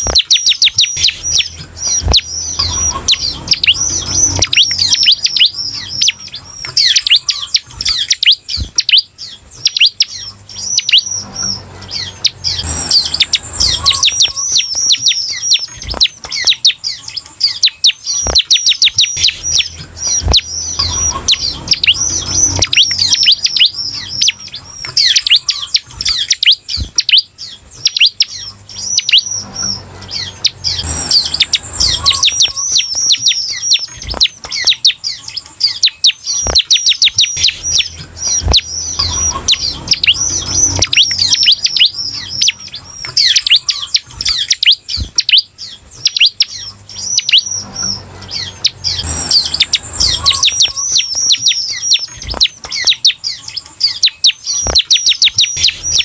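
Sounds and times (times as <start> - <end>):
bird singing high falling notes: 0.0 - 56.0.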